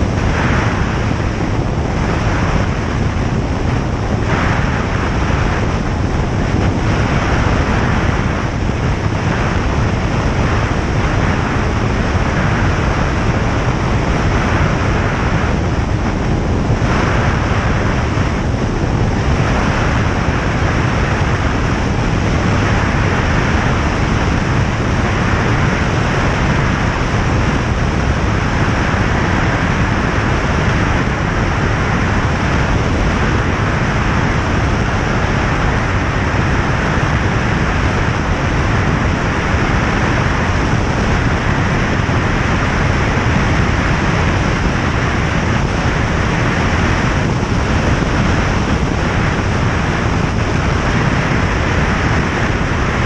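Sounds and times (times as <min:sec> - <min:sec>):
light aircraft engine and propeller: 0:00.0 - 0:53.0
rushing airflow: 0:00.0 - 0:53.0.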